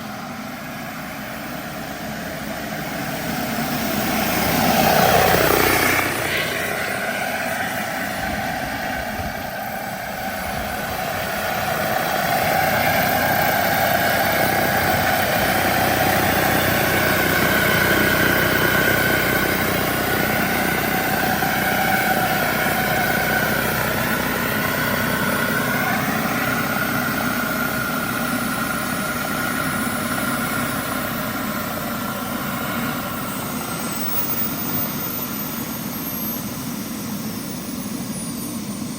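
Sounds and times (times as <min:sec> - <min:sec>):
model helicopter turbine whine: 0:00.0 - 0:38.9.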